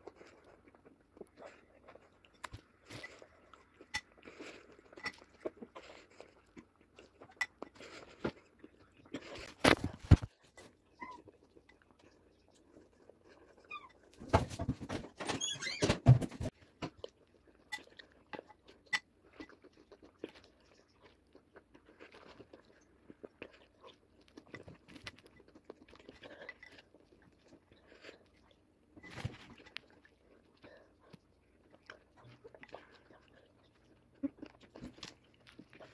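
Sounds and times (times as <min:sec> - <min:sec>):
chewing crunchy cereal: 0:00.0 - 0:14.2, 0:16.5 - 0:35.9.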